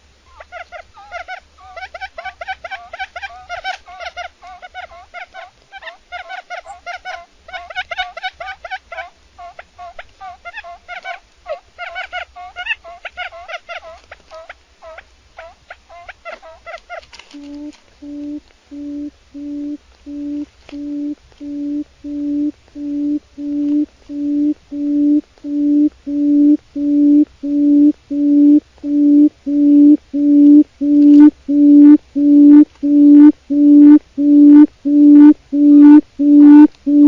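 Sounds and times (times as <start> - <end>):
quail hooting call: 0.2 - 37.0.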